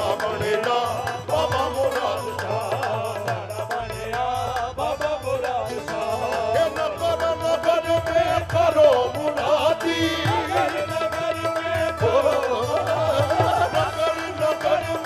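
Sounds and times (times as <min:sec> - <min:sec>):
hand drum beat: 0:00.0 - 0:15.0
harmonium: 0:00.0 - 0:15.0
voices singing: 0:00.0 - 0:15.0.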